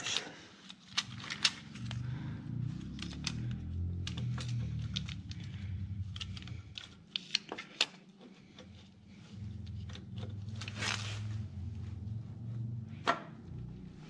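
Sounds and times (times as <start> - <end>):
low steady hum: 0.0 - 7.5, 8.1 - 14.0.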